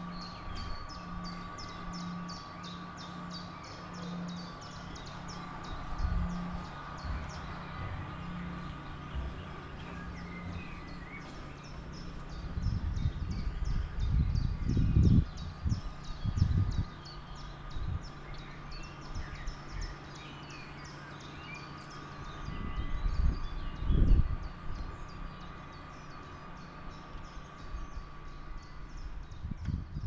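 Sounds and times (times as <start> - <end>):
low rumbles: 0.0 - 21.2, 21.9 - 30.0
birds calling: 0.0 - 30.0
faint steady hum: 0.0 - 30.0.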